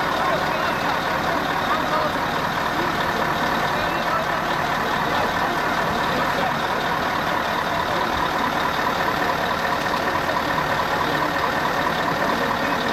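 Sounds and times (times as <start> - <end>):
bus engine idling: 0.0 - 12.9.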